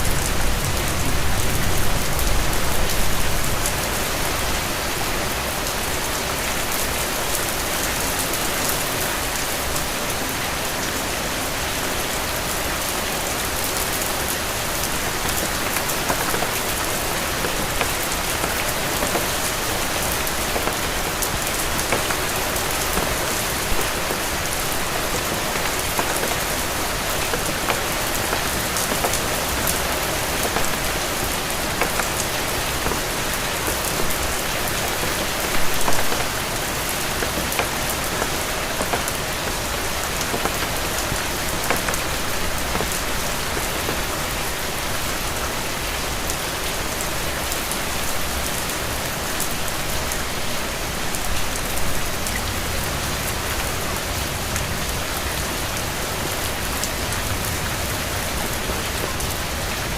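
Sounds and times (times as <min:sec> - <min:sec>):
rain falling on a road: 0:00.0 - 0:59.9.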